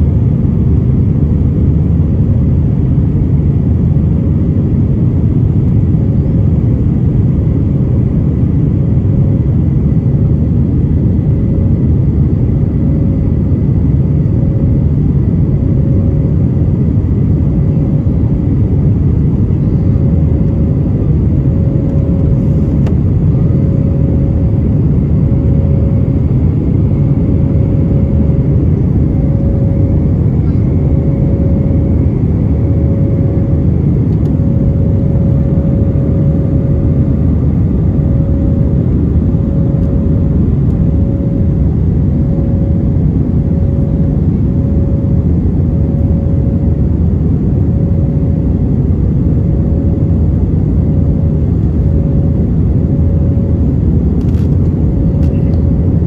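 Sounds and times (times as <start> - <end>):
faint hum: 0.0 - 56.0
jet engines rumbling in cabin: 0.0 - 56.0.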